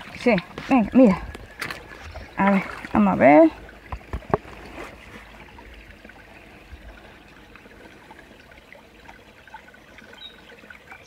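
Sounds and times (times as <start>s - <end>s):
water trickling and swishing: 0.0s - 11.0s.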